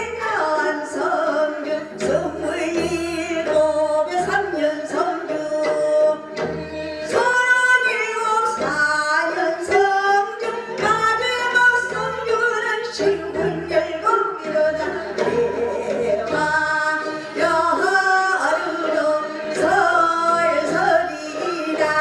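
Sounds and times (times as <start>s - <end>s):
woman singing into a microphone: 0.0s - 6.3s, 7.0s - 22.0s
instrumental accompaniment: 0.0s - 22.0s.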